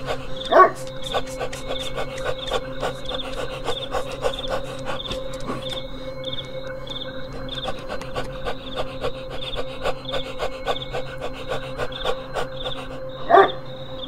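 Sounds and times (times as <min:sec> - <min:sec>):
rhythmic rasping scrape: 0:00.0 - 0:13.6
crickets chirping: 0:00.0 - 0:14.0.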